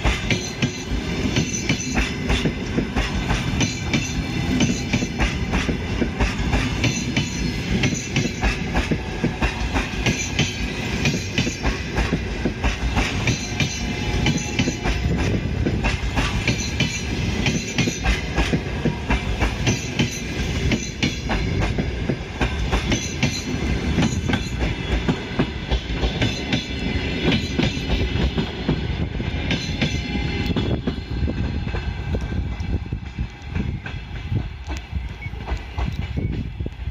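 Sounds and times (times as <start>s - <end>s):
train wheels clattering over rail joints: 0.0s - 36.7s.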